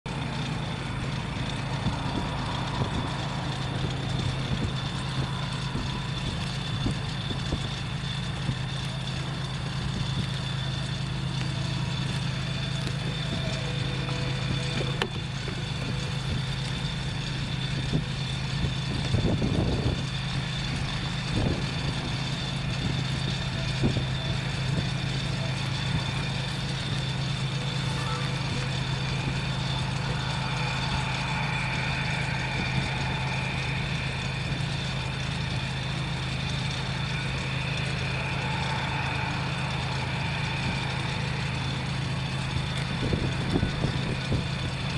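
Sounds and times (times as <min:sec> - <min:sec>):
high whine: 0:00.0 - 0:44.9
low engine drone: 0:00.0 - 0:44.9.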